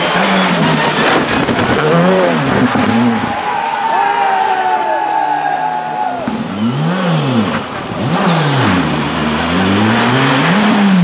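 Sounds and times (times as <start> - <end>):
rally car engine revving: 0.0 - 3.6, 5.0 - 11.0.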